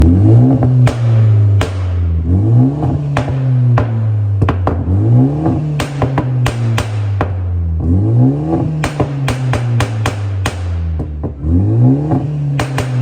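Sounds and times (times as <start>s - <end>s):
car engine revving: 0.0s - 13.0s
exhaust pops and crackles: 0.0s - 13.0s.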